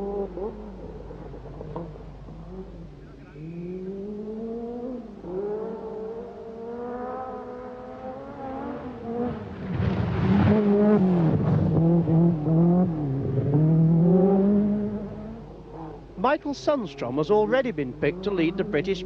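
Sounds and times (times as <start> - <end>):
rally car engine at full effort: 0.0 - 19.0.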